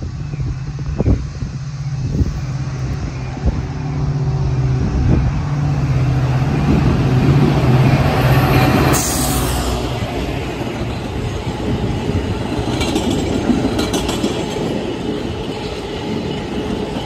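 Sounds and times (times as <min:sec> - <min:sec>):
diesel locomotive engine drone: 0:00.0 - 0:17.0
passing train rushing hiss: 0:00.0 - 0:17.0.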